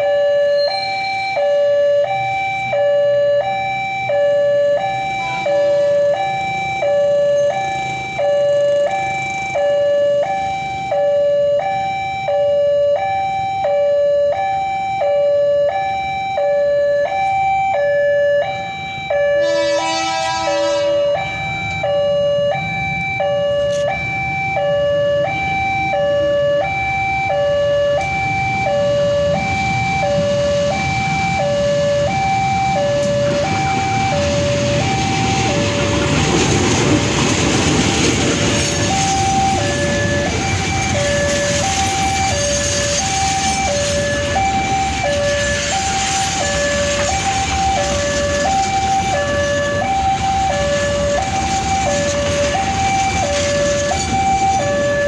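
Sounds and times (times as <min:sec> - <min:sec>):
diesel locomotive and coaches rumbling: 0:00.0 - 0:55.0
level-crossing alarm ding-dong: 0:00.0 - 0:55.0.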